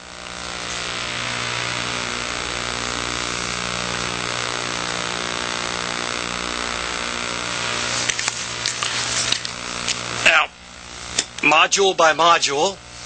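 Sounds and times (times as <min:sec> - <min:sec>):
even hiss: 0:00.0 - 0:13.0
low electrical hum: 0:00.0 - 0:13.0.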